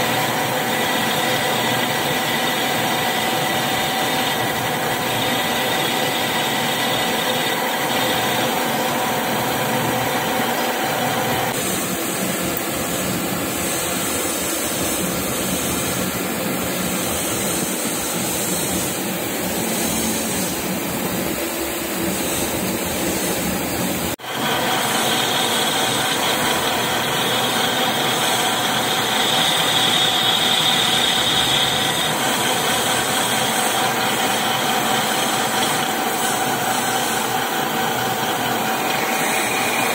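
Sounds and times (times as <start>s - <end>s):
metal lathe humming and whining: 0.0s - 39.9s.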